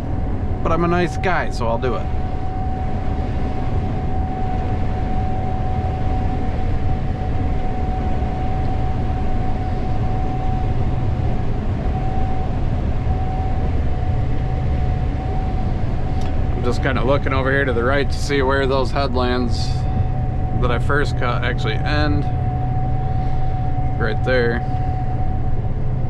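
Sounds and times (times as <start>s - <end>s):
combine engine rumble: 0.0s - 26.0s
high whine: 0.0s - 26.0s.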